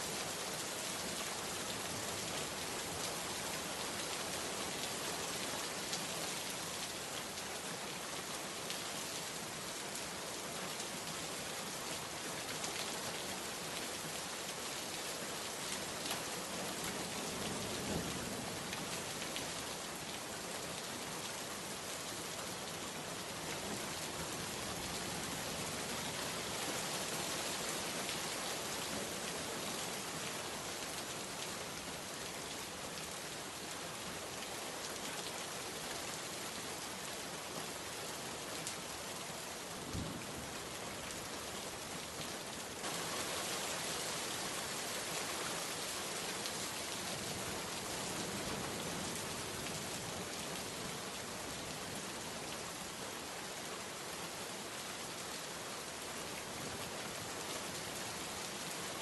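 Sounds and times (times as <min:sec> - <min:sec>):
rain falling on surfaces: 0:00.0 - 0:59.0.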